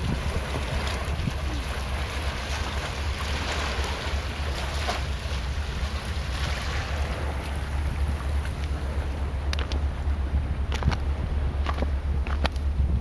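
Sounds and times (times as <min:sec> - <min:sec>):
seawater washing: 0:00.0 - 0:13.0
wind on microphone: 0:00.0 - 0:13.0.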